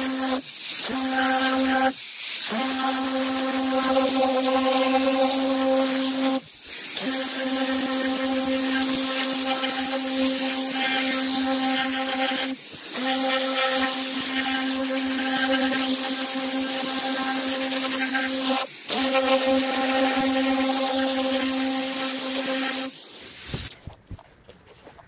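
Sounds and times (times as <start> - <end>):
compressed air hissing: 0.0 - 23.8.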